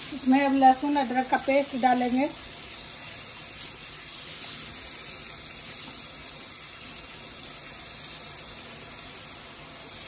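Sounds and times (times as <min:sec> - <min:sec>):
chicken and onions sizzling in oil: 0:00.0 - 0:10.0.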